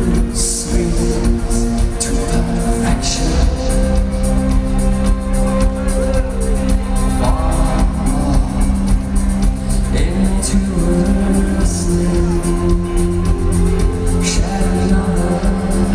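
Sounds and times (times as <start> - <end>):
live rock band playing: 0.0 - 15.9
steady drum beat: 0.0 - 15.9.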